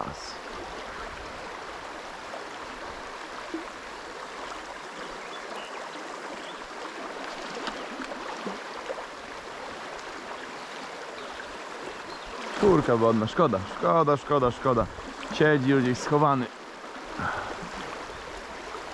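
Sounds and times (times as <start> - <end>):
river water rushing over stones: 0.0 - 18.9.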